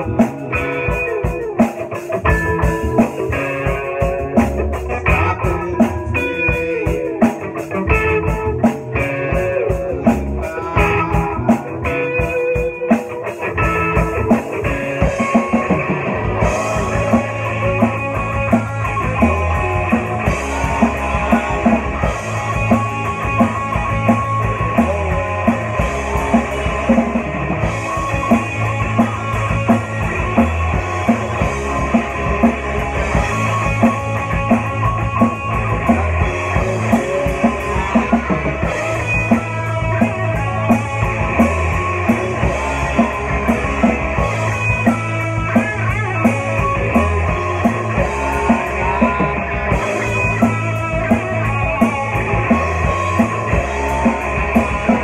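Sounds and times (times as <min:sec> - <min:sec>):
bass: 0:00.0 - 0:55.0
drum kit: 0:00.0 - 0:55.0
electric guitar: 0:00.0 - 0:55.0.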